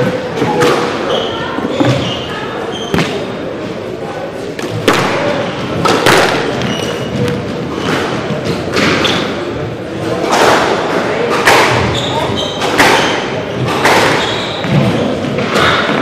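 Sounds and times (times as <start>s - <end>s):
squash ball impacts echoing: 0.0s - 3.7s, 4.4s - 16.0s.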